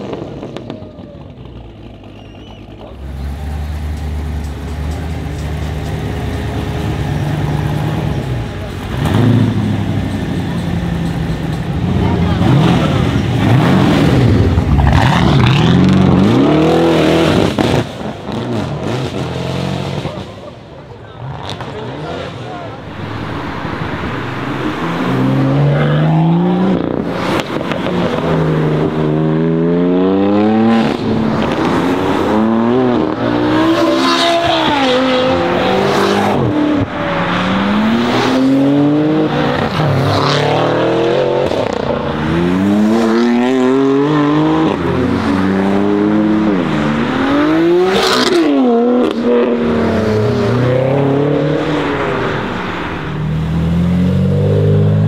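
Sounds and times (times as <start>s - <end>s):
car engines accelerating hard: 0.0s - 55.0s.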